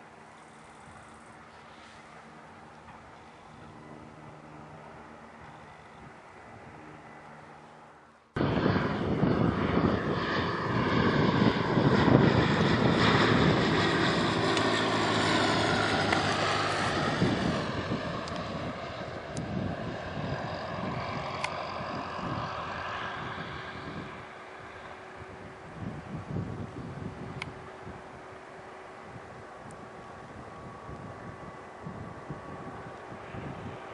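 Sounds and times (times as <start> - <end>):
faint steady engine hum: 0.0 - 33.9
propeller aircraft passing: 0.0 - 33.9.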